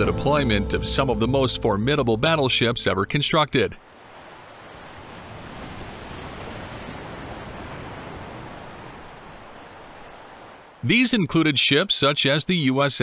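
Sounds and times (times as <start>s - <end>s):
sea: 1.6s - 12.8s
wind: 2.0s - 13.0s.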